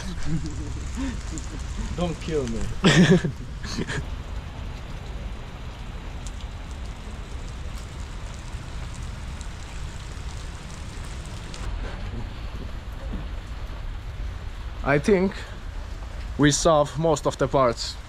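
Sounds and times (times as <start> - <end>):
low rumble: 0.0 - 17.0
steady rainfall: 0.0 - 18.0.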